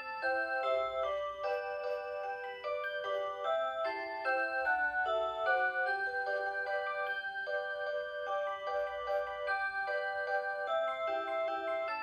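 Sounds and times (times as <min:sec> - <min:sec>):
alarm clock electronic melody: 0:00.0 - 0:12.0.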